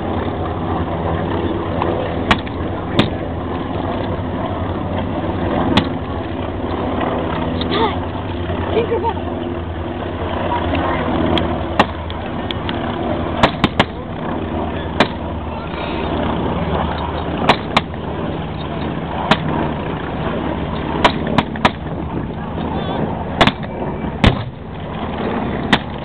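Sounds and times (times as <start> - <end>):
steady low drone: 0.0 - 26.0.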